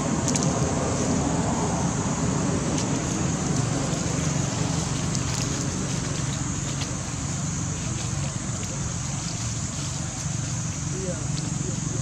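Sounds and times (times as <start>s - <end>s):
low rumble and rushing hiss: 0.0s - 12.0s.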